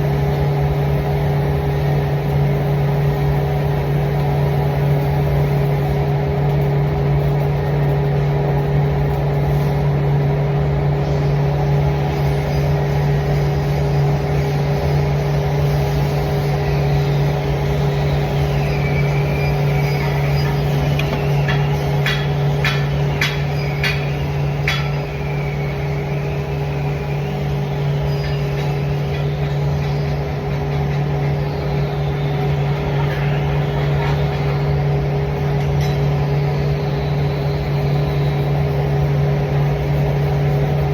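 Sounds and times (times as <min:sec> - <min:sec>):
machine humming: 0:00.0 - 0:40.9.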